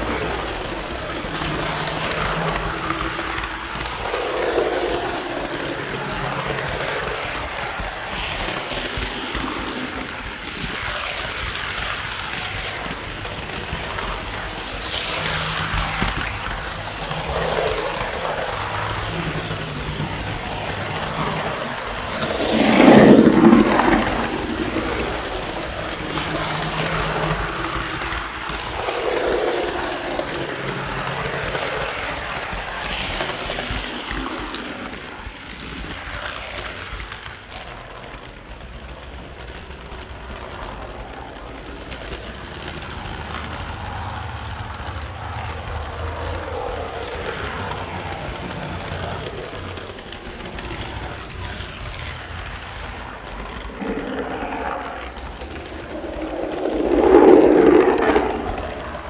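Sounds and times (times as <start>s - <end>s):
model train wheels rumbling on rail: 0.0s - 59.0s.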